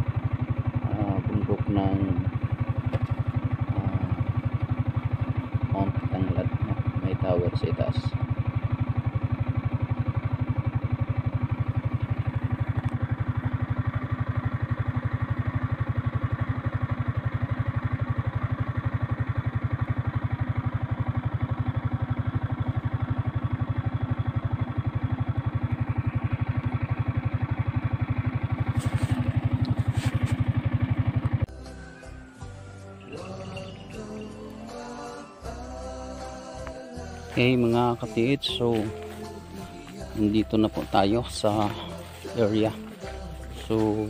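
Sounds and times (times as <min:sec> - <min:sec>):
small motorcycle engine running: 0:00.0 - 0:44.0.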